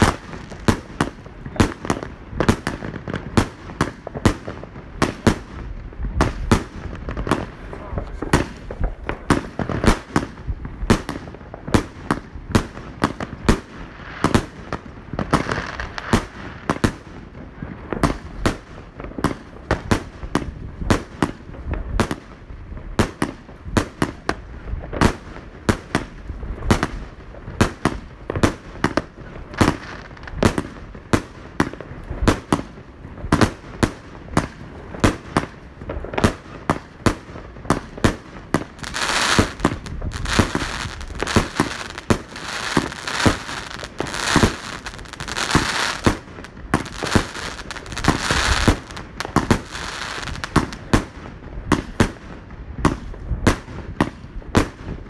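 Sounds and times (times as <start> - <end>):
fireworks bangs and pops: 0.0 - 55.0.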